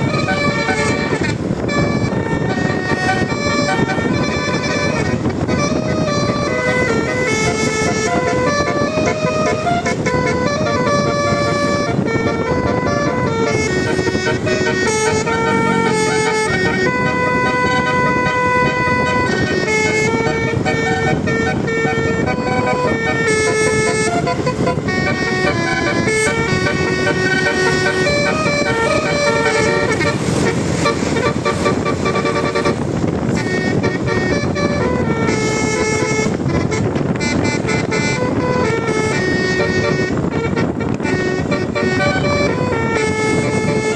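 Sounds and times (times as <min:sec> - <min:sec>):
engine rumble: 0:00.0 - 0:43.9
multi-tone air horn tune: 0:00.0 - 0:43.9
street noise: 0:00.0 - 0:43.9.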